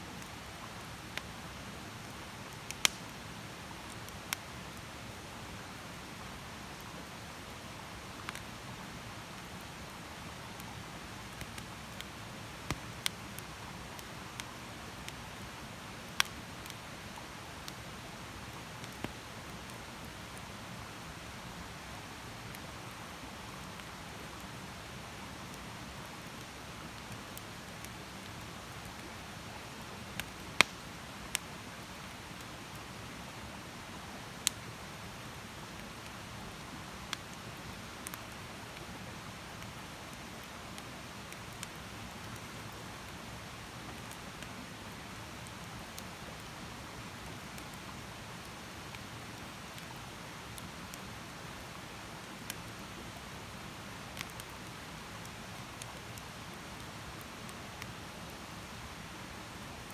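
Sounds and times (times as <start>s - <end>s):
fire crackles and pops: 0.1s - 4.9s, 5.6s - 59.9s
campfire hissing: 0.1s - 59.9s.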